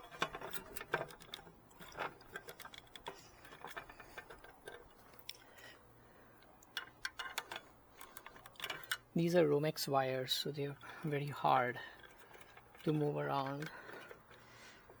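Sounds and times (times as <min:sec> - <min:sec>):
screwdriver and wires clicking: 0:00.0 - 0:05.5, 0:06.6 - 0:09.1, 0:10.7 - 0:15.0.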